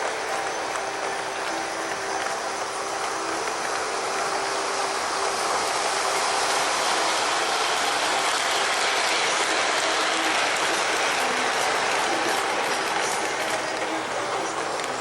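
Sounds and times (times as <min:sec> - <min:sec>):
model locomotive motor and gears: 0:00.0 - 0:15.0
model train wheels clattering on rails: 0:00.0 - 0:15.0.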